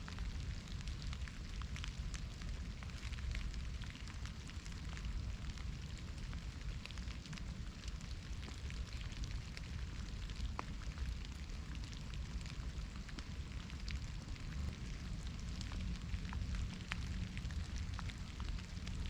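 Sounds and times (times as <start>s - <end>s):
low rumble: 0.0s - 19.0s
rain hiss: 0.0s - 19.0s
raindrops ticking: 0.0s - 19.0s.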